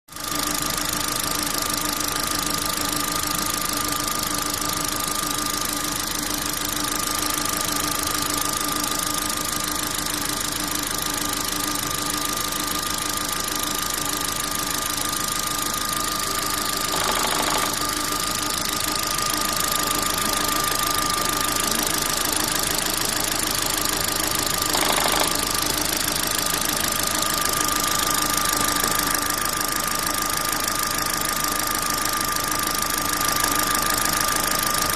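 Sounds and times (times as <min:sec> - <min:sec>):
car engine running: 0:00.2 - 0:34.9
constant high whine: 0:00.4 - 0:34.9.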